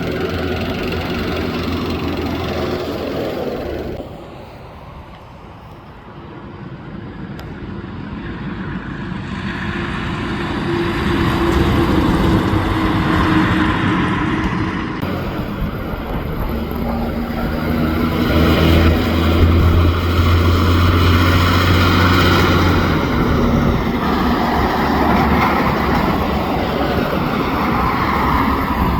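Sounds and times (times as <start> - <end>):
trucks passing on road: 0.0 - 28.9.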